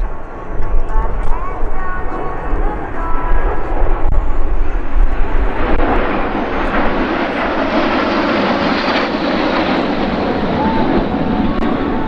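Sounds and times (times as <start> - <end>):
jets flying by: 0.0 - 12.0.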